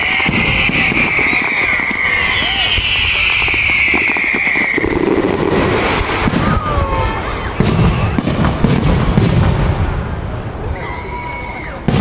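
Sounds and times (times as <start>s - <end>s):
firework bangs and crackles: 0.0s - 12.0s.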